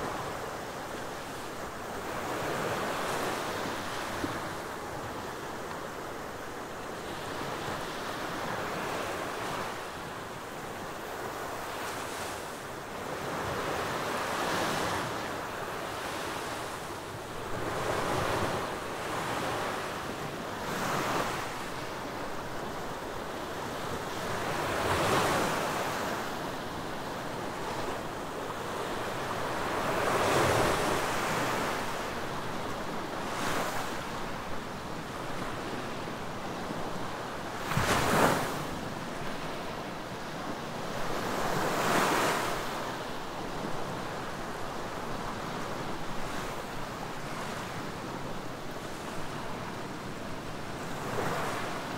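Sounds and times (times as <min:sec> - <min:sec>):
waves washing up a beach: 0:00.0 - 0:51.9.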